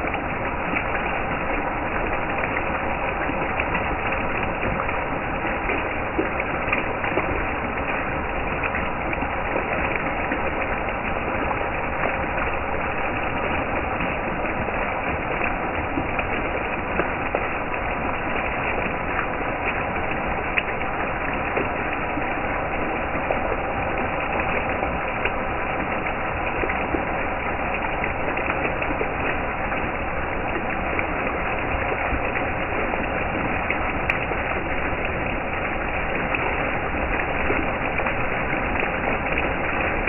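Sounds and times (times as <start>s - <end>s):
fountain water splashing and gurgling: 0.0s - 40.0s.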